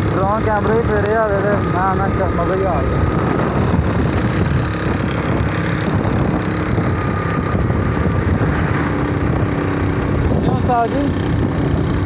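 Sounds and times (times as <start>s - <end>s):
motorbike engine running: 0.0s - 12.0s
road and wind noise: 0.0s - 12.0s.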